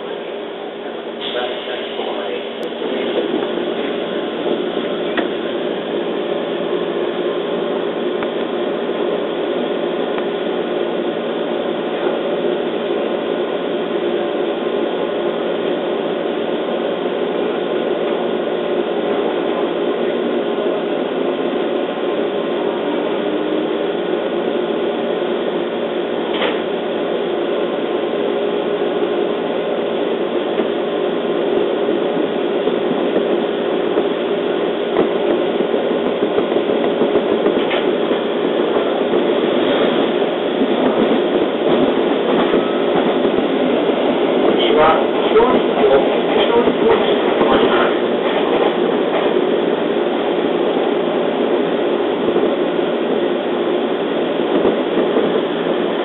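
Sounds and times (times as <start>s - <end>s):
electric train interior hum: 0.0s - 56.0s.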